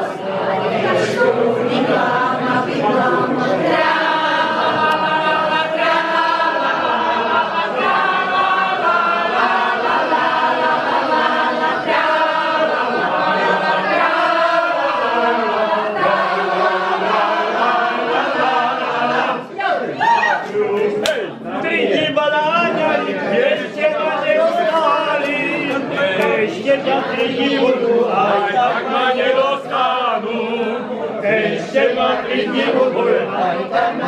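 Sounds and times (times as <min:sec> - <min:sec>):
group singing unaccompanied: 0:00.0 - 0:34.0.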